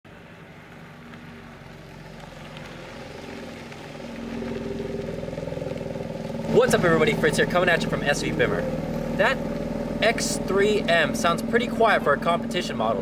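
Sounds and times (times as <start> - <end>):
car engine running: 0.1 - 13.0.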